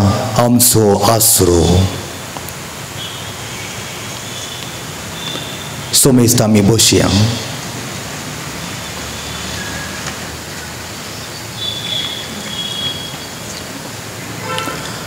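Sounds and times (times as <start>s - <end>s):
hall background hiss and hum: 0.0s - 15.0s.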